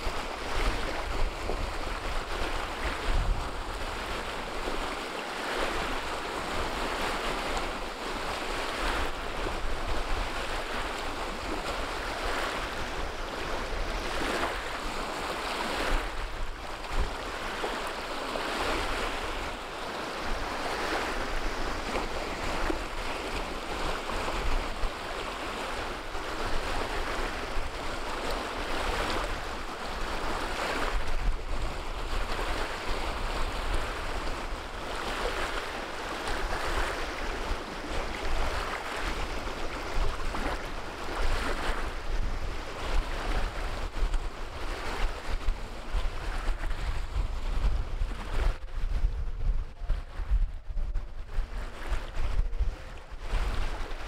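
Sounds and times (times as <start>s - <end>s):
waves breaking on pebble shore: 0.0s - 47.0s
wind rumbling on microphone: 0.0s - 54.0s.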